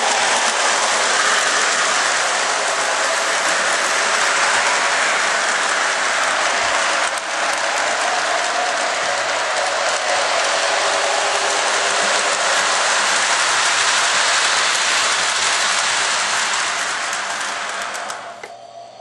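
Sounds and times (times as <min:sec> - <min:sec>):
model train clattering on track: 0:00.0 - 0:18.5.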